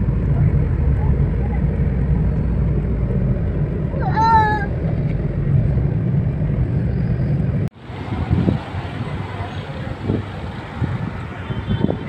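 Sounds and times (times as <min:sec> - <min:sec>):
road rumble inside moving car: 0:00.0 - 0:12.0
street traffic noise: 0:00.0 - 0:12.0.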